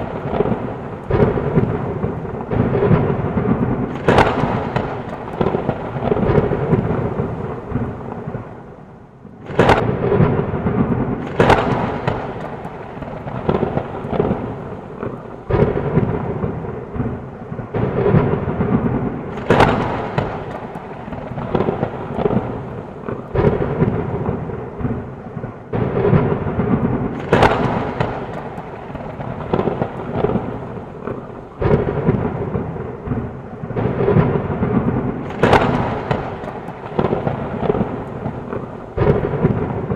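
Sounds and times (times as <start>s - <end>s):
heavy rain: 0.0s - 39.9s
thunder cracks and rumbles: 0.0s - 39.9s.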